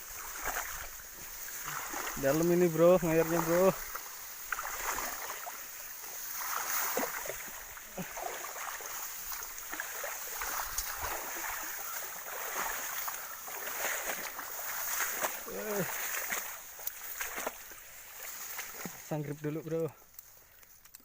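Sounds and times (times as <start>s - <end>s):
water sloshing and splashing: 0.0s - 21.0s
small splashes and clicks: 0.1s - 21.0s.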